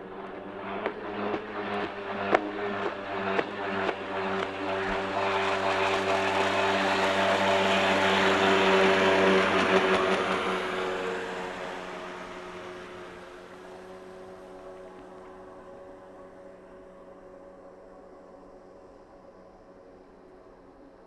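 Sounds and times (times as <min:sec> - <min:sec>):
jet ski engine drone: 0:00.0 - 0:21.0.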